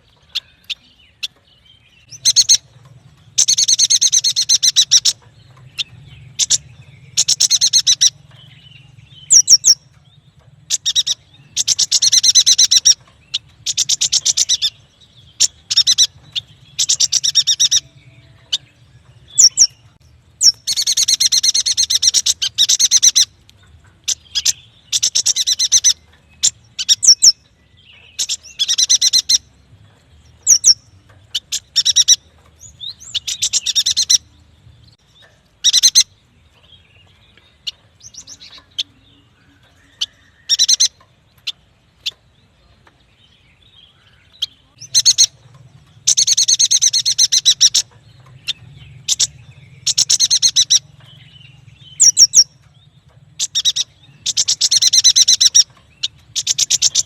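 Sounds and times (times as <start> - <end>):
bird chattering chirps: 0.2 - 29.6, 30.3 - 57.0.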